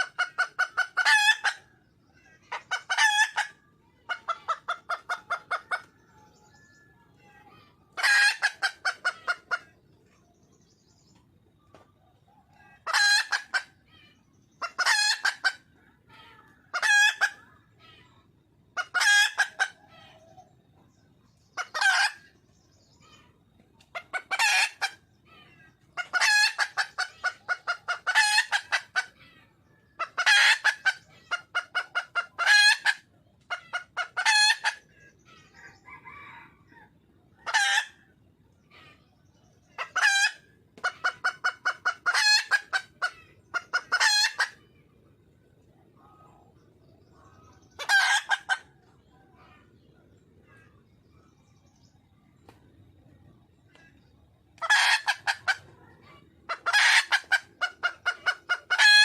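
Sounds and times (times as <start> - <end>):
junglefowl hen clucking: 0.0 - 59.0.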